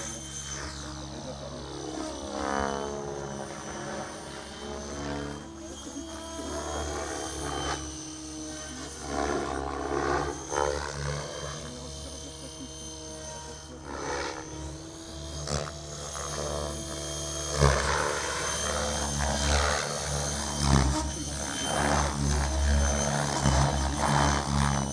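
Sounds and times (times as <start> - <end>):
model helicopter motor whine: 0.0 - 24.9
rotor-blade noise swells: 0.0 - 24.9.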